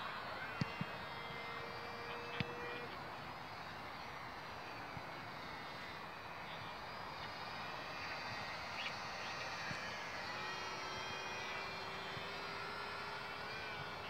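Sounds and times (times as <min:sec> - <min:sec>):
faint electric motor whine: 0:00.0 - 0:14.0
steady outdoor noise: 0:00.0 - 0:14.0.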